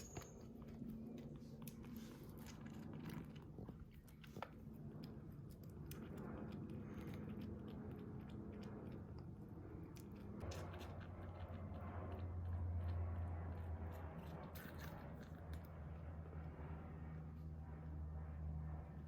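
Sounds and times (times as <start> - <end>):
kitten chewing: 0.0 - 16.6
steady low hum: 0.0 - 19.0.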